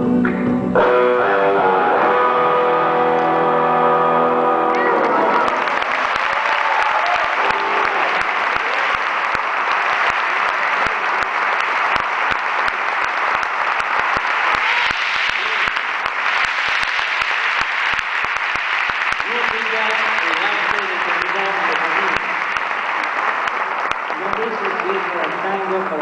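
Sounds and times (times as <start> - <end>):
audience applauding: 3.1 - 26.0.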